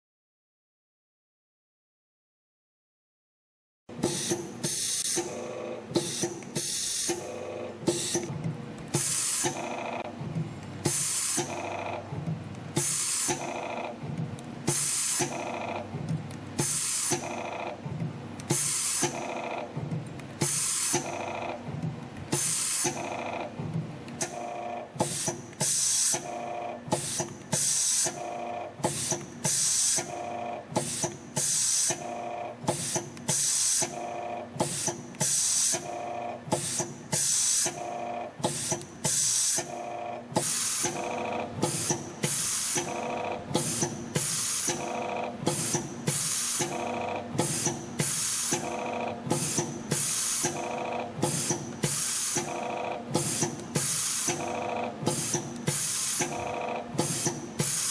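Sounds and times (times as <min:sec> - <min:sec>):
spring machine running: 0:04.0 - 0:57.9.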